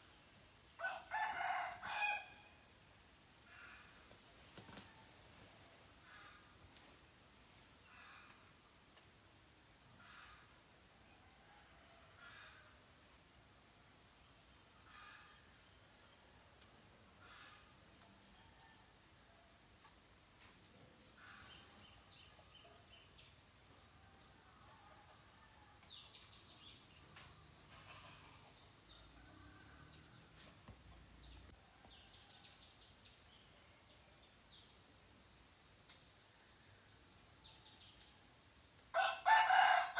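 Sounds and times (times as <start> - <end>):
insects chirping in rapid pulses: 0.0 - 31.7, 32.6 - 39.9.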